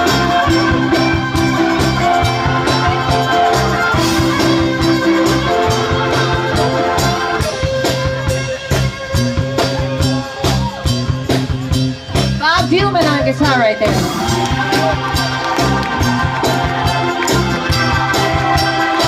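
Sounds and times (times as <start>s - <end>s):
live band playing: 0.0s - 19.0s
steady drum beat: 0.0s - 19.0s.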